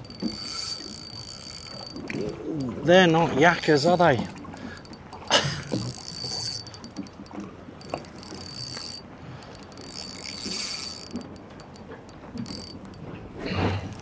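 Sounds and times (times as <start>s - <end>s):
fishing reel ratchet clicking: 0.0s - 13.1s.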